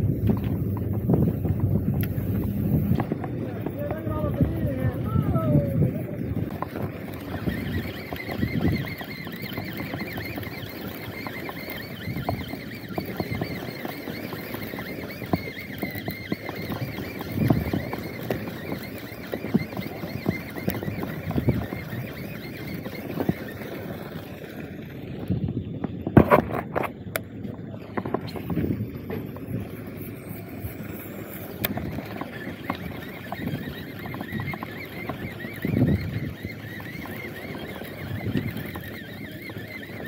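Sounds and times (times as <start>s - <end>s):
boat engine drone: 0.0s - 40.0s
fishing reel whirring: 0.0s - 40.0s
water and wind: 0.0s - 40.0s
reel and rod clicks: 0.2s - 40.0s.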